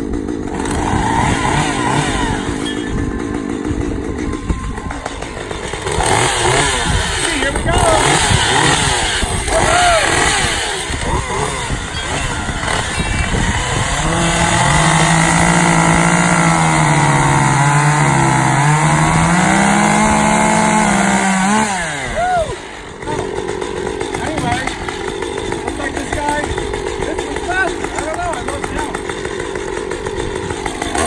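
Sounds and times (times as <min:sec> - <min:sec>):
chainsaws revving: 0:00.0 - 0:31.0.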